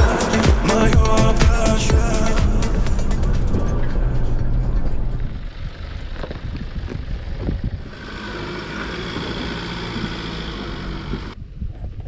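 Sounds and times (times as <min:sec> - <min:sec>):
vehicle engine driving: 0:00.0 - 0:11.4.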